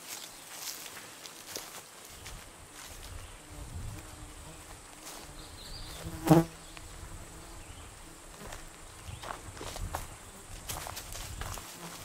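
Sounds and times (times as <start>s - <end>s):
light footfalls on trail: 0.0s - 6.9s, 8.3s - 12.0s
flying insect buzzing: 1.5s - 12.0s.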